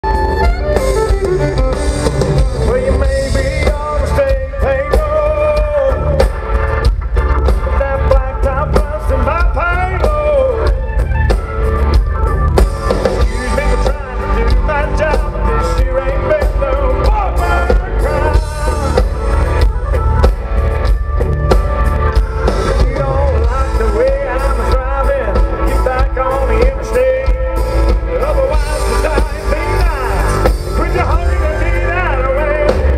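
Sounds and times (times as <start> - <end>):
drum kit: 0.0 - 32.9
heavy bass: 0.0 - 32.9
live country band playing: 0.0 - 32.9.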